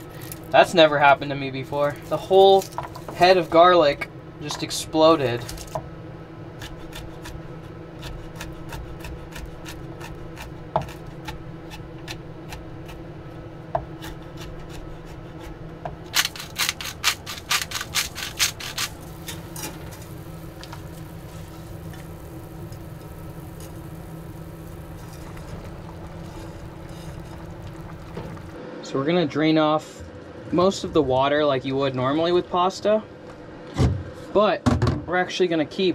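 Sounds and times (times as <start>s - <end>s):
low hum: 0.0s - 33.6s.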